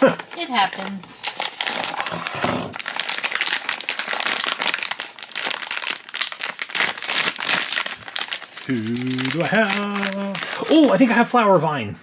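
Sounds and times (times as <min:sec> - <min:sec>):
foil bag crinkling: 0:00.2 - 0:11.4.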